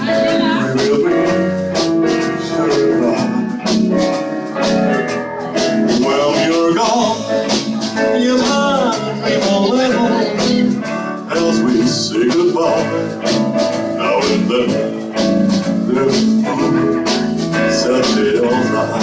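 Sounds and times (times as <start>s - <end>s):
guitar lines: 0.0s - 19.0s
live band playing: 0.0s - 19.0s
steady drum beat: 0.0s - 19.0s.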